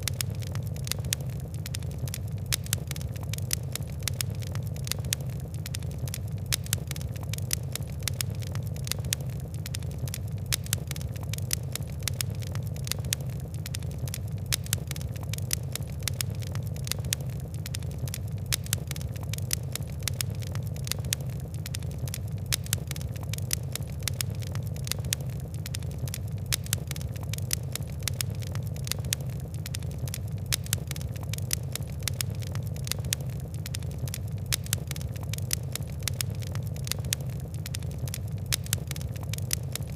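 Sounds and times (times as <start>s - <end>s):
fire crackling: 0.0s - 39.9s
low rumble of burning: 0.0s - 39.9s.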